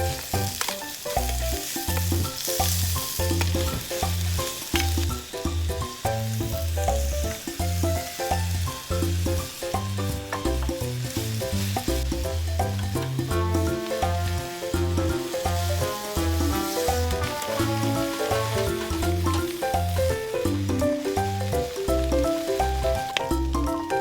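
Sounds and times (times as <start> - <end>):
background music with bass line: 0.0 - 24.0
food sizzling in a pan: 0.0 - 24.0.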